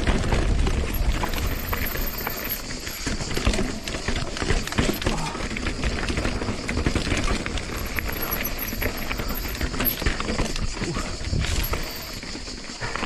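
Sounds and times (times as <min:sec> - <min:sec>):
mountain bike rattling over rocks: 0:00.0 - 0:13.0.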